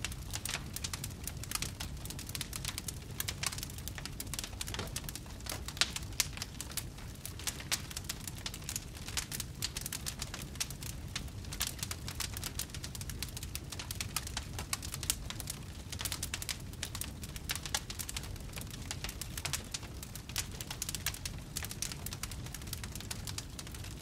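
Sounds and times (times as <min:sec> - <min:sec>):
campfire crackling and popping: 0:00.0 - 0:24.0
low rumble of flames: 0:00.0 - 0:24.0.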